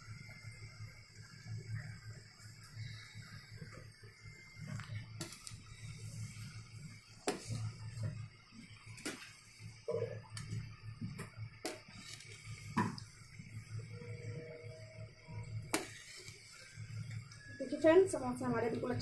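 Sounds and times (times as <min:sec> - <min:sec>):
oil sizzling and bubbling: 0:00.0 - 0:19.0.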